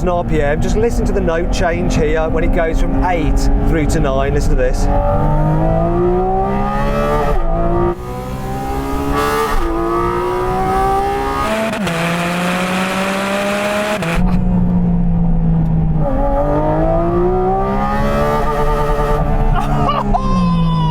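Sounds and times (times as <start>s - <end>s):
car engine accelerating hard: 0.0s - 20.3s.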